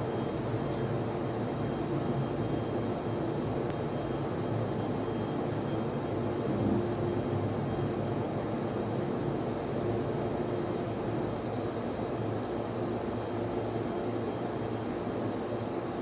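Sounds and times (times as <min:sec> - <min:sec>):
cooling fans whirring: 0:00.0 - 0:16.0.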